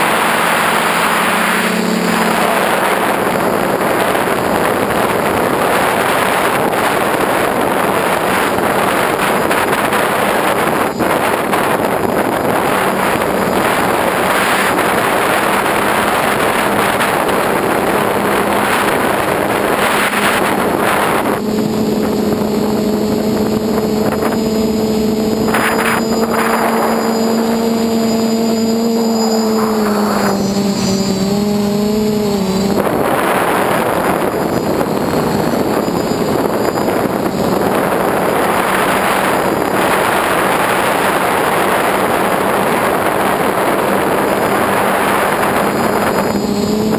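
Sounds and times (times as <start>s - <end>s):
motor and propeller hum: 0.0s - 46.9s
wind rushing over microphone: 0.0s - 46.9s.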